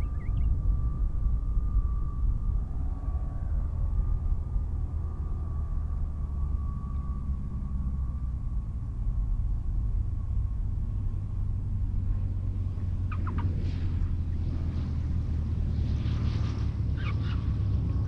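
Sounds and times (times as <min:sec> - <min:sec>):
faint thin whine: 0:00.0 - 0:18.0
piston aircraft engine rumbling: 0:00.0 - 0:18.0.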